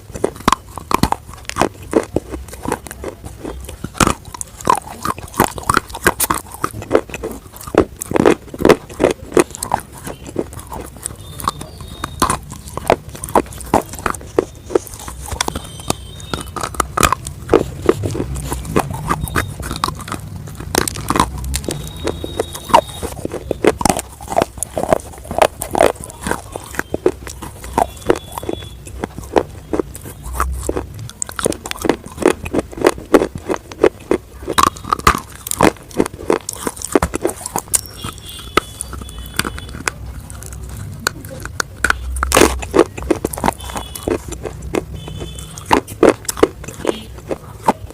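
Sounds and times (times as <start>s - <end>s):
crunching and chewing: 0.0s - 47.9s.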